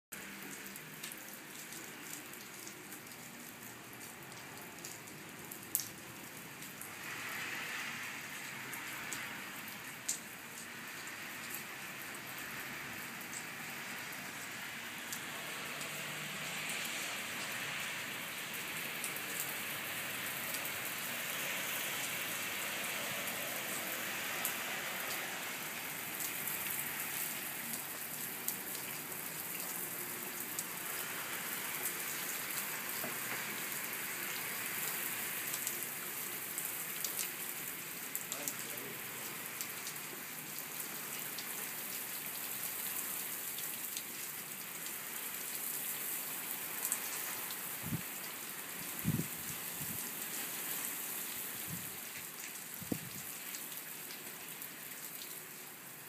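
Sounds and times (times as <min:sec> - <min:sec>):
heavy rain on tiled roof: 0:00.1 - 0:56.0
sharp ticks of raindrops: 0:00.1 - 0:56.0.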